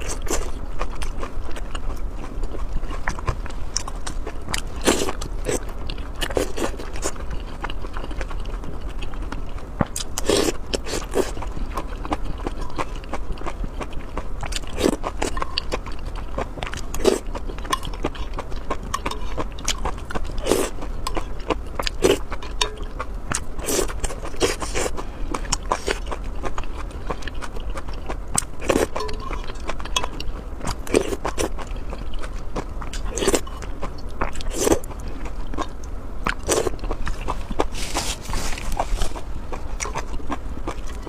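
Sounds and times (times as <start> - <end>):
low hum: 0.0 - 41.0
person chewing food: 0.0 - 41.0.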